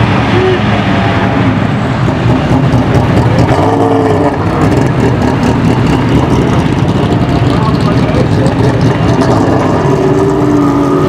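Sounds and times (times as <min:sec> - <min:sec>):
race car engine drone: 0:00.0 - 0:11.0.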